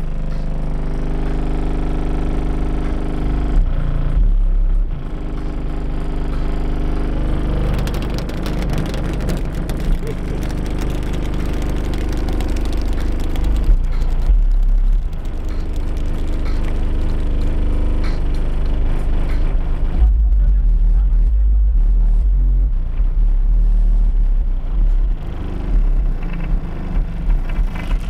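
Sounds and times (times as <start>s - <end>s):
car engine hum: 0.0s - 28.0s.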